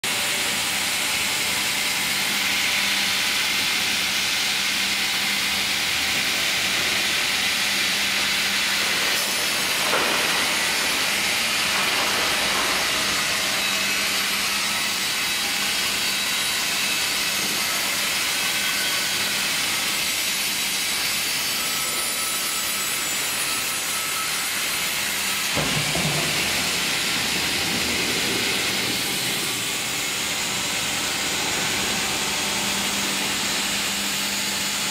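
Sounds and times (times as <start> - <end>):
machinery hum: 0.1 - 34.9.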